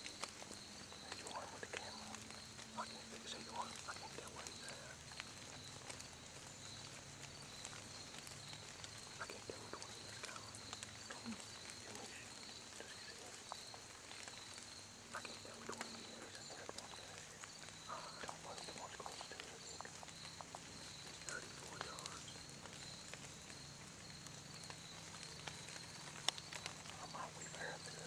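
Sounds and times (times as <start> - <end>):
deer walking through dry leaves: 0.0 - 28.0
insect calling in pulses: 0.0 - 28.0.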